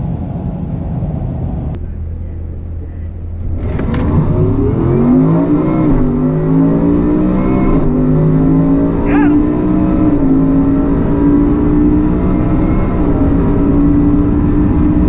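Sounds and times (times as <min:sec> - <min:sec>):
car engine revving at full throttle: 0:01.6 - 0:15.0.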